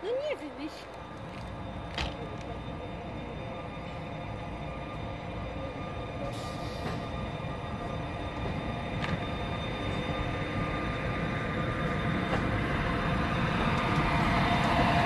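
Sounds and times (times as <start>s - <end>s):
train rolling slowly: 0.0s - 15.0s.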